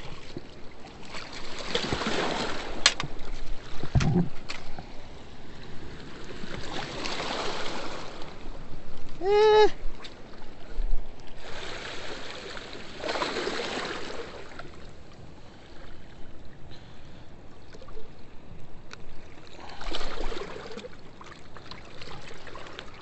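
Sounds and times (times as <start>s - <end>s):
water splashing surges: 0.0s - 5.2s, 5.9s - 15.5s, 19.3s - 23.0s.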